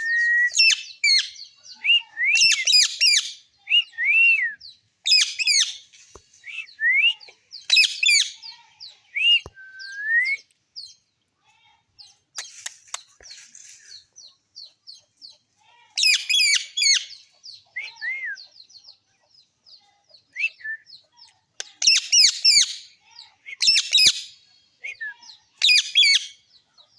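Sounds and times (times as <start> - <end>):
parrot chirps and chatter: 0.0 - 3.9, 5.0 - 9.4, 10.8 - 26.9.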